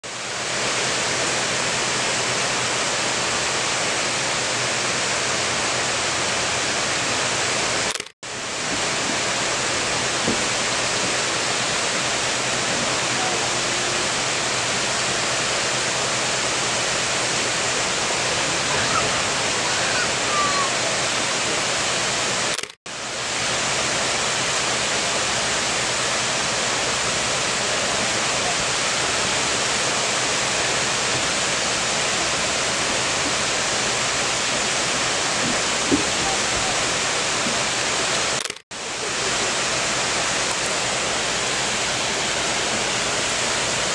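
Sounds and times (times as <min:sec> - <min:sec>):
waterfall rushing onto rocks: 0:00.0 - 0:43.9.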